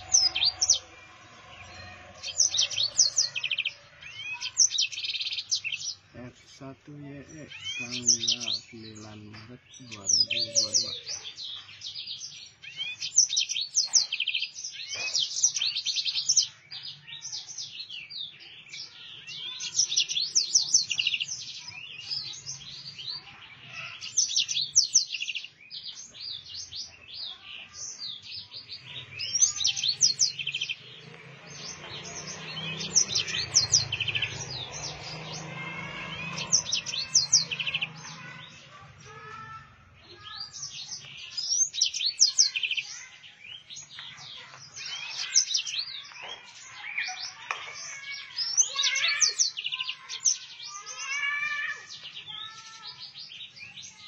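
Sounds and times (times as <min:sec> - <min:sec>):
finch singing chirps and trills: 0:00.0 - 0:54.0.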